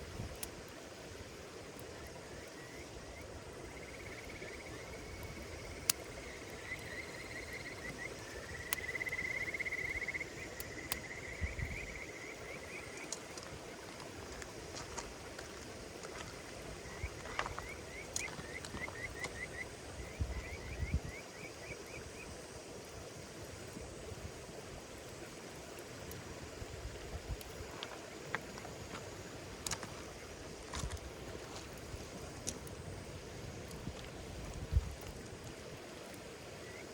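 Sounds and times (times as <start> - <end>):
campfire crackling and popping: 0.0 - 20.6, 21.5 - 36.9.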